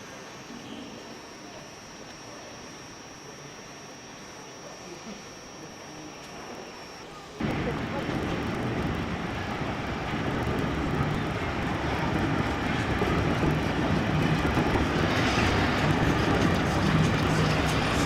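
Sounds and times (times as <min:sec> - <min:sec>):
steady engine noise: 0:00.0 - 0:18.0.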